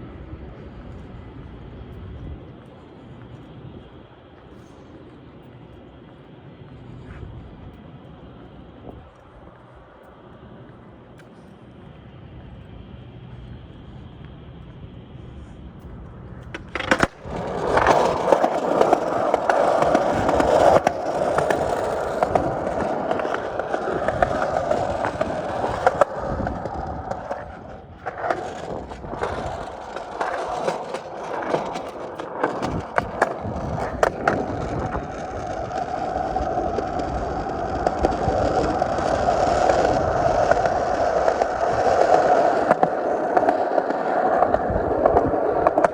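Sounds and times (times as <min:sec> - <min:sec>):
skateboard wheels rolling: 0:00.0 - 0:45.9.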